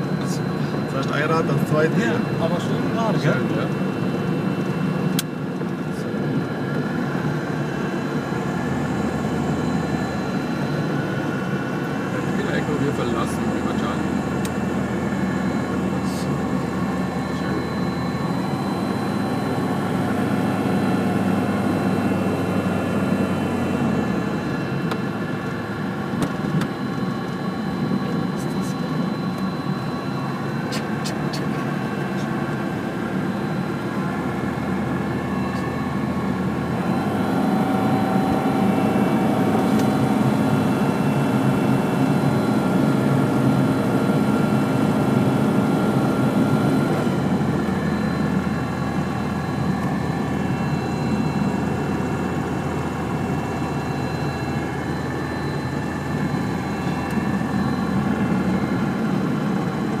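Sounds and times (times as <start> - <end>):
propeller aircraft engine running: 0.0 - 60.0.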